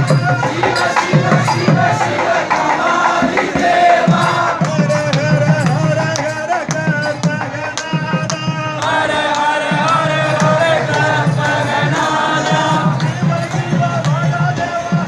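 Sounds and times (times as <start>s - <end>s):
low drum beats: 0.0s - 15.0s
sharp percussion strikes: 0.0s - 15.0s.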